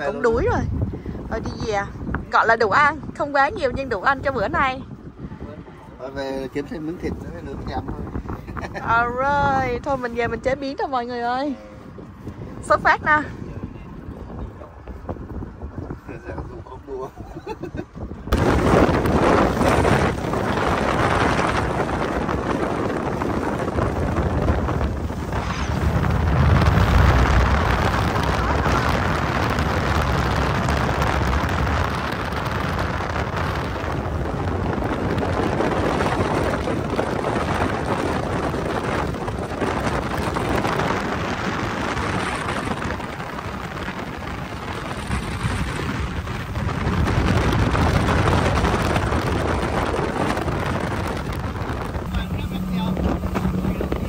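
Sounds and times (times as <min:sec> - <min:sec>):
heavy low rumble: 0:00.0 - 0:54.0
motorboat running: 0:00.0 - 0:54.0
rushing wind and water: 0:00.0 - 0:54.0
wind buffeting microphone: 0:00.0 - 0:54.0.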